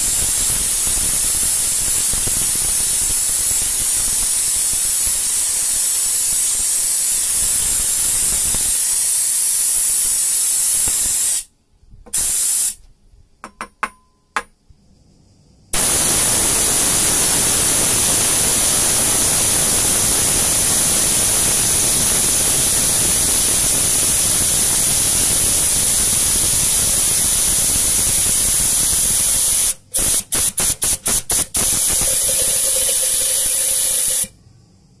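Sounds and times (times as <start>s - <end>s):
compressed air hissing: 0.0s - 11.5s, 12.1s - 12.8s, 15.8s - 34.3s.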